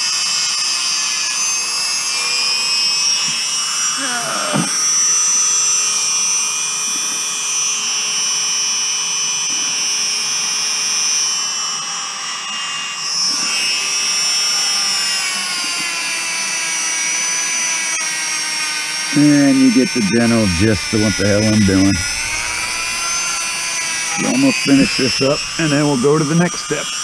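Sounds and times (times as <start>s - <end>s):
rotary tool grinding whine: 0.0s - 27.0s.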